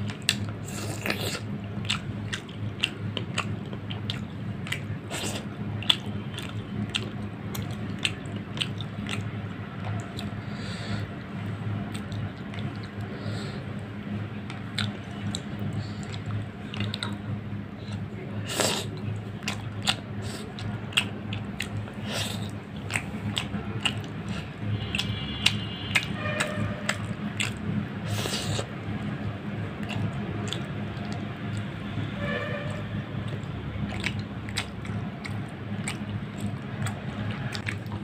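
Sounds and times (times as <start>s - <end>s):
wet eating smacks: 0.0s - 11.1s, 11.9s - 13.1s, 14.4s - 17.2s, 17.8s - 31.7s, 32.7s - 38.0s
chewing: 0.0s - 11.2s, 11.9s - 38.0s.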